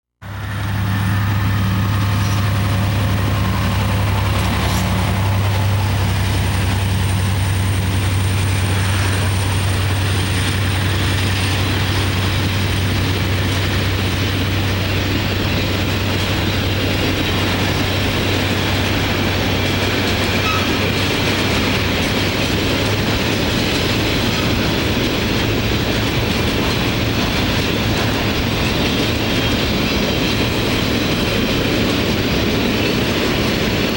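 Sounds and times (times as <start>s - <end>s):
locomotive engine hum: 0.2s - 33.9s
train wheels clattering on rails: 0.3s - 33.9s.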